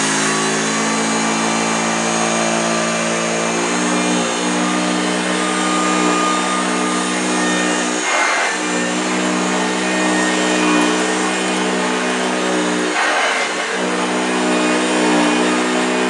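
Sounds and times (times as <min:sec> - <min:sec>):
vacuum cleaner motor hum: 0:00.0 - 0:16.0
vacuum rushing hiss on carpet: 0:00.0 - 0:16.0.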